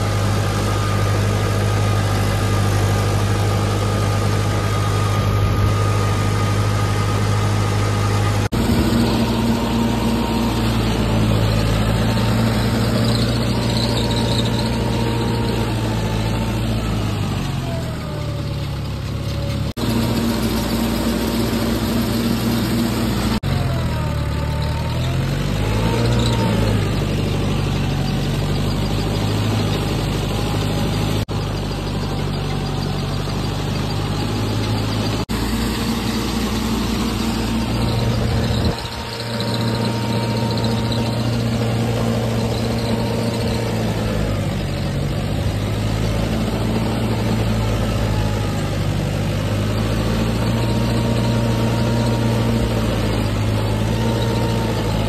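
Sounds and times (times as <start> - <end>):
tractor diesel engine under load: 0.0 - 55.0
whining tone: 0.0 - 55.0.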